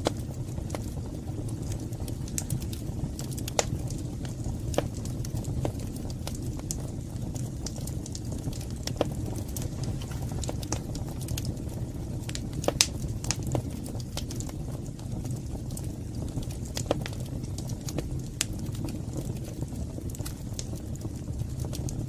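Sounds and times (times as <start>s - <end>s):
sharp pops of fire: 0.0s - 22.0s
wood fire crackling: 0.0s - 22.0s.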